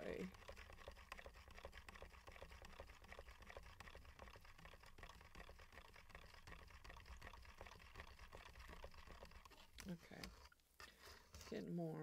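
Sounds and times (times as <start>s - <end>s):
stir stick scraping plastic cup: 0.0s - 12.0s.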